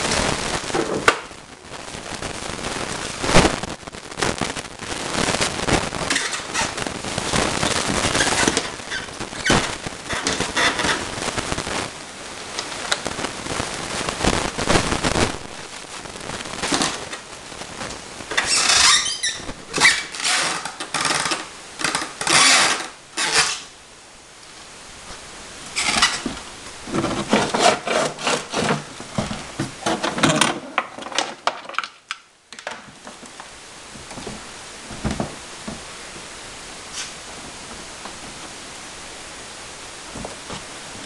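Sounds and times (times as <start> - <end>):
rustling of cardboard and plastic packing: 0.0 - 12.0, 12.6 - 23.7, 25.0 - 36.3.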